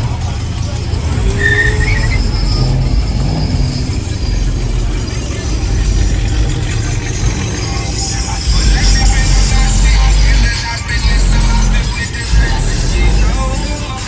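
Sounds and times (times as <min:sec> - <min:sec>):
bass-heavy music: 0:00.0 - 0:14.0
cars and trucks running: 0:00.0 - 0:14.0
road noise: 0:00.0 - 0:14.0.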